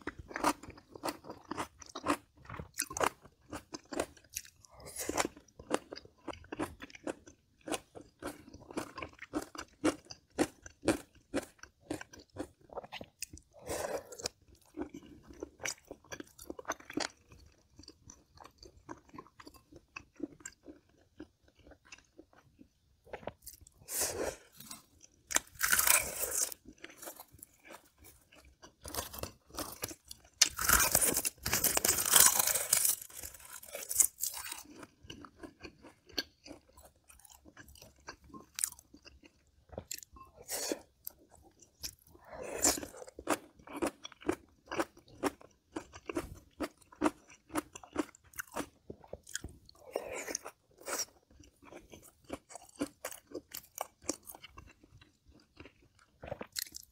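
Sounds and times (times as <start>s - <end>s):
person chewing and crunching food: 0.0s - 56.9s.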